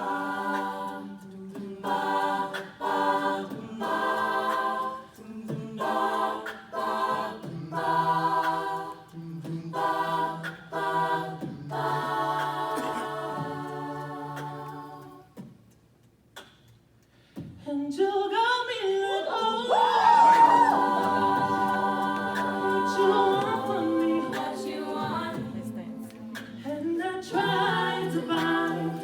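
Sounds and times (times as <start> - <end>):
a cappella group singing: 0.0 - 16.6, 17.3 - 29.0.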